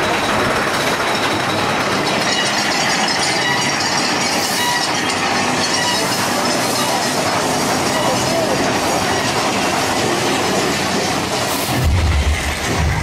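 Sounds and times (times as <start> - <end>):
roller coaster wheels rumbling: 0.0 - 13.0.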